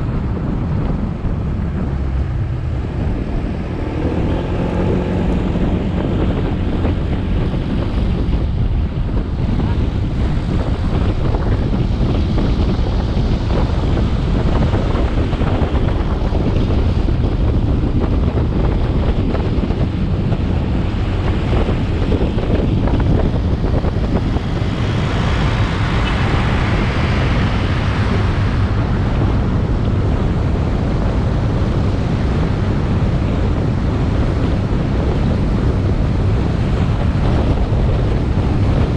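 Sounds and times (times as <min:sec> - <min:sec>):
motorcycle engine and road noise: 0:00.0 - 0:38.9
wind buffeting on microphone: 0:00.0 - 0:38.9.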